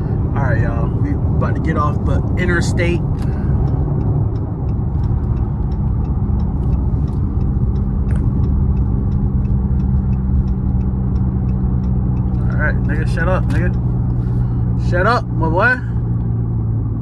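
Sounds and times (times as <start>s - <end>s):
faint regular ticking: 0.0s - 16.7s
car engine and tyres in cabin: 0.0s - 17.0s.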